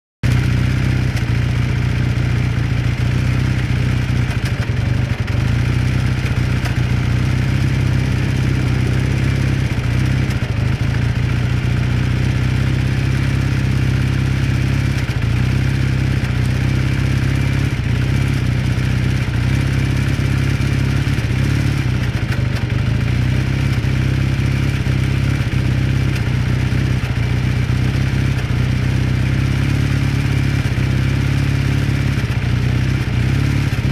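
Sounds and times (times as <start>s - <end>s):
engine knocking: 0.2s - 33.9s
motorcycle engine idling: 0.2s - 33.9s.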